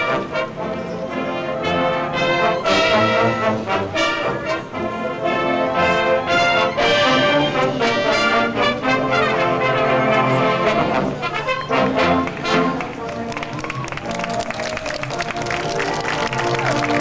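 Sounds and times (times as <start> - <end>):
brass playing march tune: 0.0 - 17.0.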